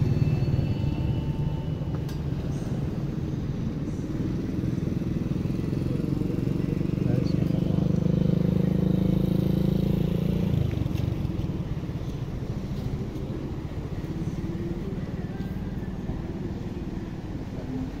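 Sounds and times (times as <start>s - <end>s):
engine running steadily: 0.0s - 18.0s.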